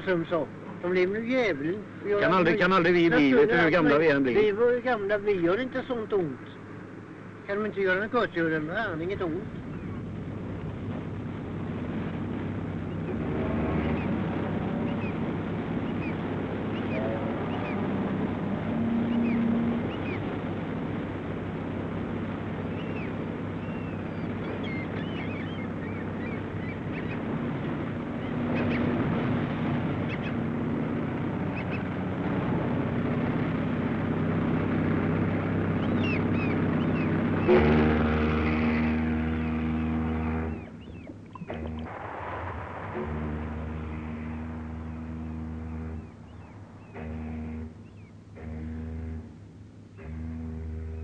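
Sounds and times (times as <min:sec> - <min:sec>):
gulls crying: 0:00.0 - 0:51.0
ship engine droning: 0:00.0 - 0:51.0
ship horn blast: 0:09.8 - 0:51.0.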